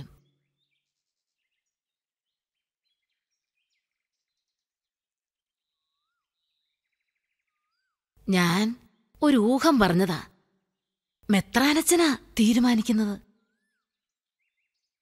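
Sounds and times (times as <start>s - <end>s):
faint birdsong chirps and trills: 0.0s - 15.0s.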